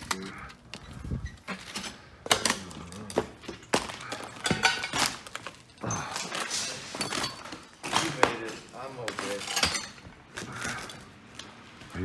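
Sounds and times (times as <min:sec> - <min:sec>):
debris knocking and crunching: 0:00.0 - 0:11.1.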